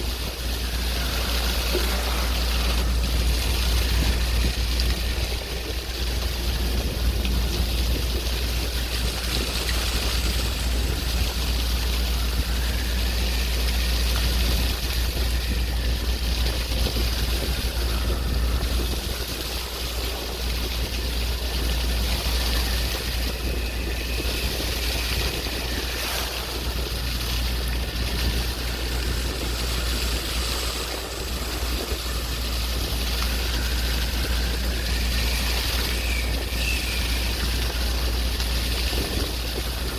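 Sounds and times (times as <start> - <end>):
heavy low rumble: 0.0 - 39.9
sea waves washing: 0.0 - 39.9.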